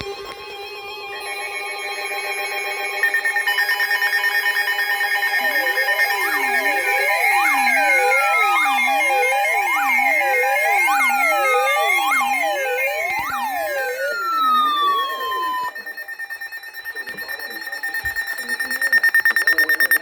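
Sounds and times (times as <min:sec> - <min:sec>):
electronic siren wailing: 0:00.0 - 0:20.0
rapidly pulsing high beep: 0:00.0 - 0:20.0
steady alert tones: 0:00.0 - 0:20.0
falling whistle-like tone: 0:03.1 - 0:20.0.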